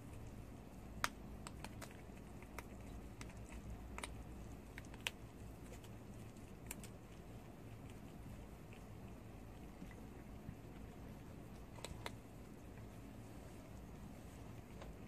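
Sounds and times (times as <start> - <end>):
low steady hum: 0.0 - 15.0
small animal chewing crunches: 0.0 - 15.0.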